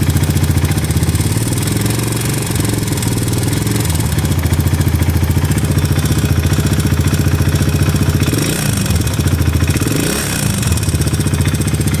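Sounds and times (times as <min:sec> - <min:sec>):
motorcycle engine idling clatter: 0:00.0 - 0:12.0.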